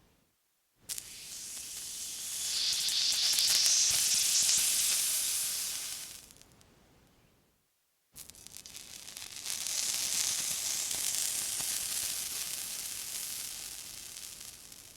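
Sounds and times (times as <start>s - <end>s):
water sizzling with crackles: 0.9s - 6.6s, 8.2s - 14.9s.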